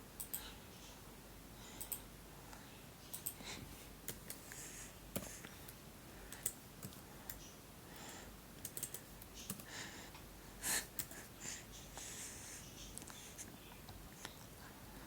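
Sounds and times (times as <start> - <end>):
faint clicking and tapping: 0.2 - 1.1, 1.7 - 10.3, 10.9 - 15.0.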